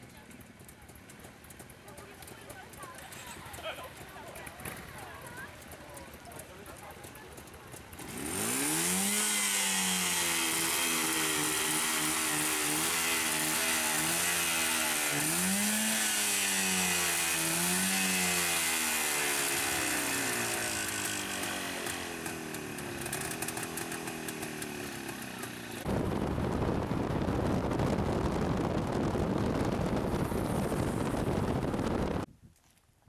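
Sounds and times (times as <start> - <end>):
motorcycle engine revving: 0.0 - 32.3.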